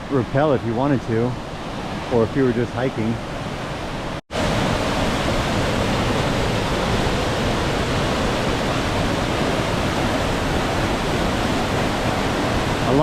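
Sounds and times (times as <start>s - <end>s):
waterfall rushing: 1.4s - 13.0s.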